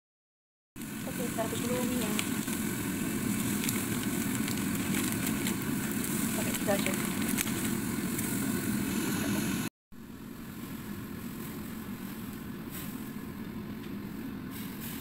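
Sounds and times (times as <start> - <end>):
water boiling hard in a wok: 0.8 - 15.0.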